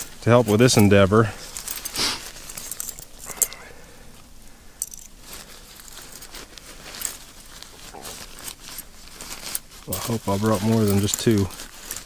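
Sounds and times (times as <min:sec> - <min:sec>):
small gear items clicking: 0:00.0 - 0:03.7, 0:04.8 - 0:12.0
fabric rustling: 0:00.0 - 0:12.0.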